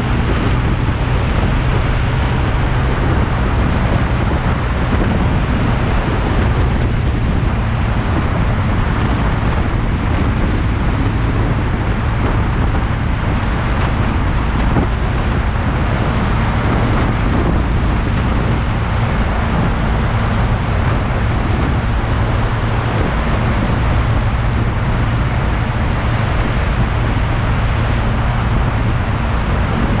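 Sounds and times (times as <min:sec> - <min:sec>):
motorcycle engine hum: 0:00.0 - 0:30.0
wind and road noise: 0:00.0 - 0:30.0.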